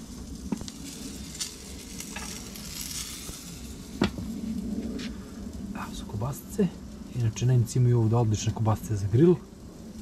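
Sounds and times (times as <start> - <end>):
sausages sizzling on a grill: 0.0 - 10.0.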